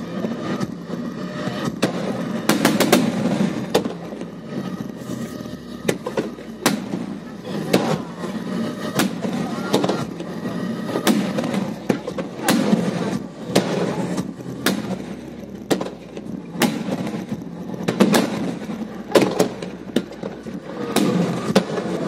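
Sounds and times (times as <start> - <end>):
steady background din: 0.0 - 22.0
firework shells bursting: 1.8 - 22.0.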